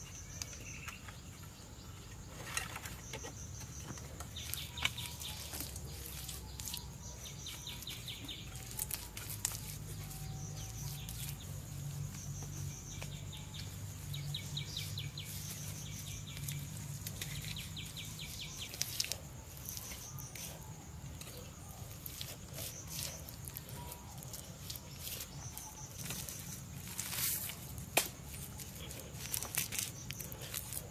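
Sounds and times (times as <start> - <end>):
bird chirping trill: 0.0 - 30.9.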